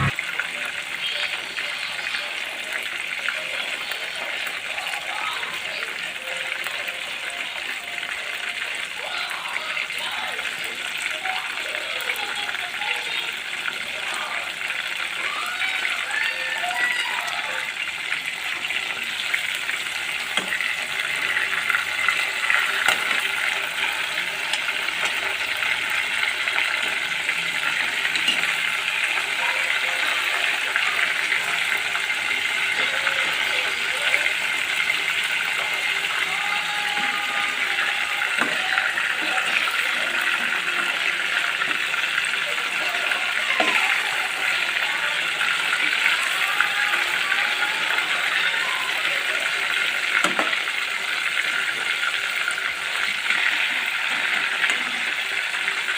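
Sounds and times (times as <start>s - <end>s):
chicken frying in hot oil: 0.0s - 55.9s.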